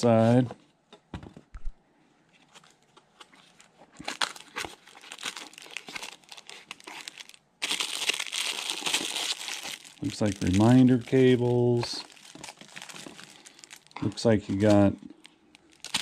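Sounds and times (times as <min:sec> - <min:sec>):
plastic wrapping crinkling: 0:02.4 - 0:16.0.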